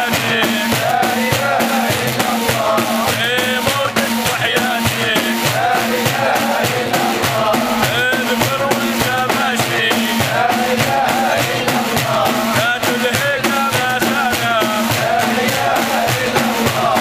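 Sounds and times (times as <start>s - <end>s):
frame drums beating: 0.0s - 17.0s
men chanting a devotional song: 0.0s - 17.0s.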